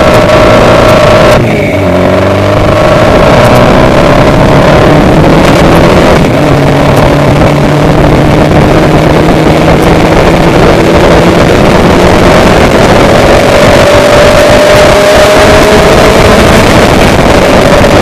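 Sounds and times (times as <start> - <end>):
vehicle engine running: 0.0 - 18.0
wind buffeting microphone: 2.4 - 18.0.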